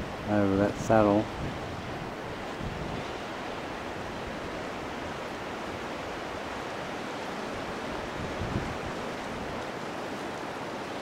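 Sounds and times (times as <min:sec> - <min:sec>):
water rushing at the shore: 0:00.0 - 0:11.0
wind: 0:00.0 - 0:11.0.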